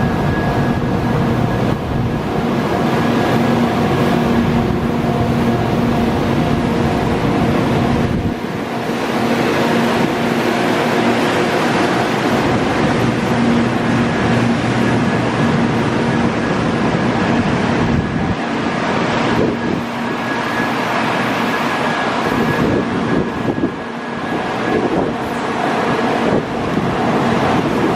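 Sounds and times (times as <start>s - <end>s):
constant hum: 0.0s - 27.9s
train rolling slowly: 0.0s - 27.9s.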